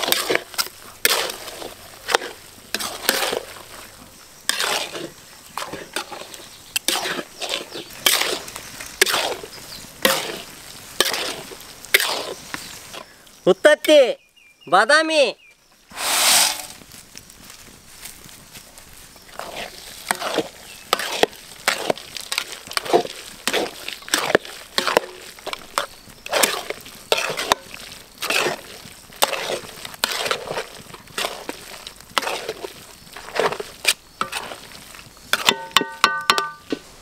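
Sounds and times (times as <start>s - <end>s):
ladle scraping a pan: 0.0s - 3.9s, 4.5s - 13.1s, 15.9s - 16.8s, 19.3s - 36.9s.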